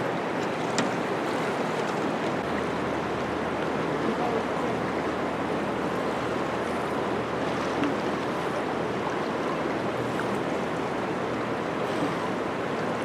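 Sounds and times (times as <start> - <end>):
fast-flowing river water: 0.0 - 13.0.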